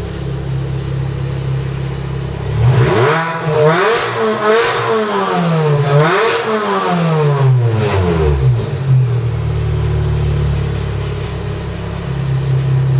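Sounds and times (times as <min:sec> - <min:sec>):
supercharged car engine revving: 0:00.0 - 0:12.9.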